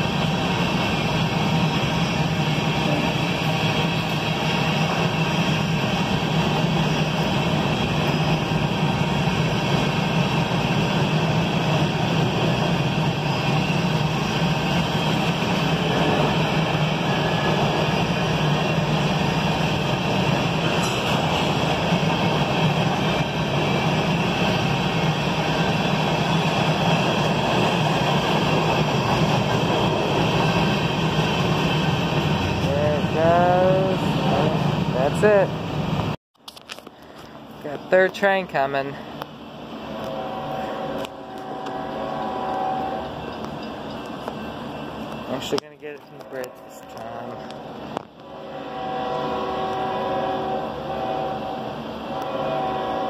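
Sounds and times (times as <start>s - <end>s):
freight train wheels rumbling on rails: 0.0s - 53.0s.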